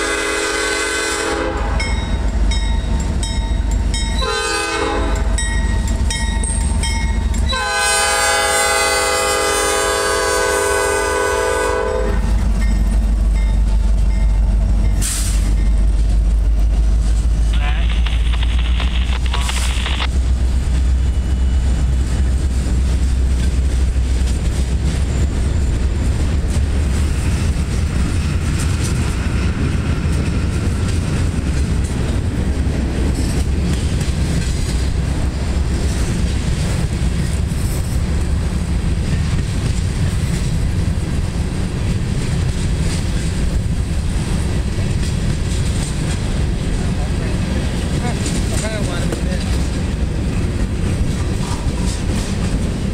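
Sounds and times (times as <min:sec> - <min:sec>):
steel wheels rumbling on rail: 0:00.0 - 0:52.9.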